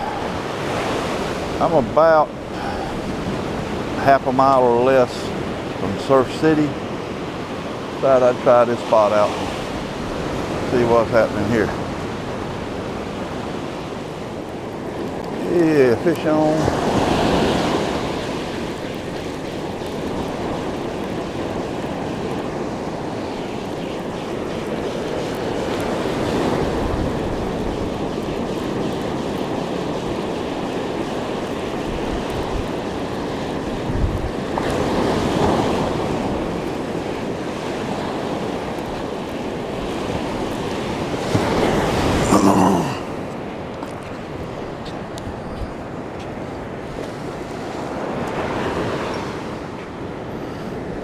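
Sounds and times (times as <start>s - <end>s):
wind buffeting microphone: 0.0s - 42.3s
ocean surf breaking: 0.0s - 51.0s.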